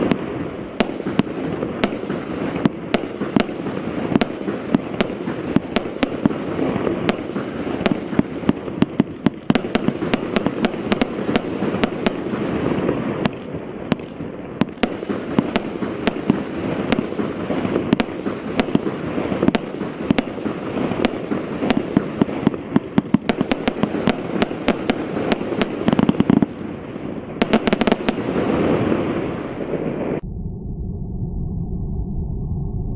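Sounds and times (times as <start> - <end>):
loud firework bangs: 0.0 - 30.2
firework barrage: 0.0 - 30.4.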